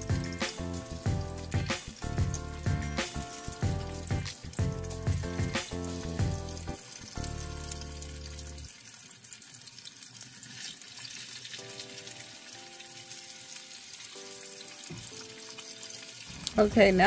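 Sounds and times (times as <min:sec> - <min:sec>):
soft background music: 0:00.0 - 0:08.7, 0:11.2 - 0:17.0
food sizzling in hot oil: 0:00.0 - 0:17.0.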